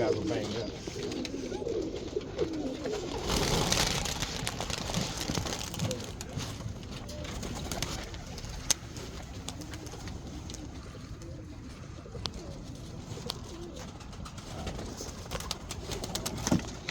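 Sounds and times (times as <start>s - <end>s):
pigeons cooing: 0.0s - 16.9s
rustling: 0.0s - 16.9s.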